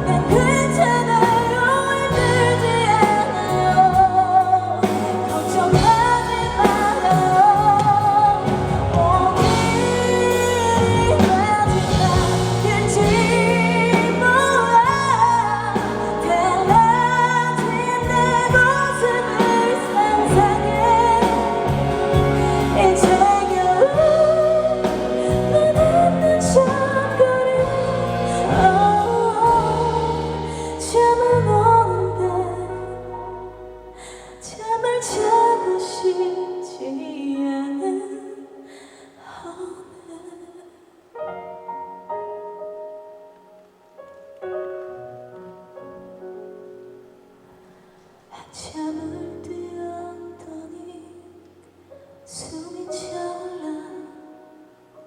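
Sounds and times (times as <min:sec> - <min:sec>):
woman singing ballad with band: 0:00.0 - 0:40.8, 0:48.4 - 0:51.5, 0:52.3 - 0:54.6.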